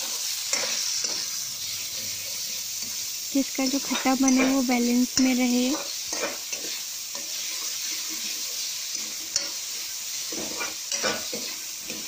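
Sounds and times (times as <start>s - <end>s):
food sizzling in hot oil: 0.0s - 12.0s
spatula scraping metal pan: 0.0s - 12.0s.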